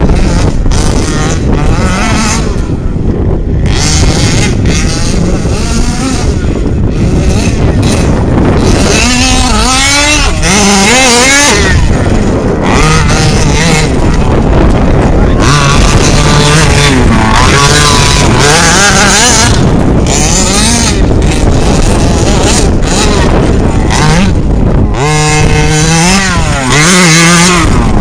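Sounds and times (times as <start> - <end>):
small two-stroke engine revving: 0.0 - 28.0.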